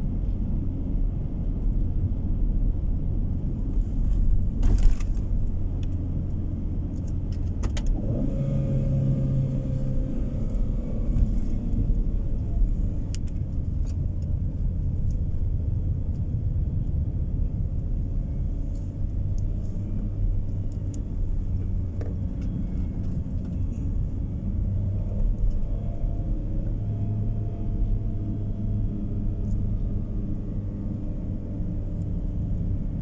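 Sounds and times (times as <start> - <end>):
car cabin road and engine rumble: 0.0 - 33.0.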